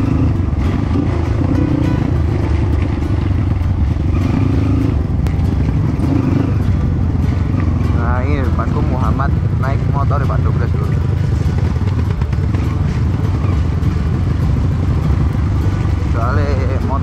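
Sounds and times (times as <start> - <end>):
background music: 0.0 - 17.0
dirt bike engine running: 0.0 - 17.0.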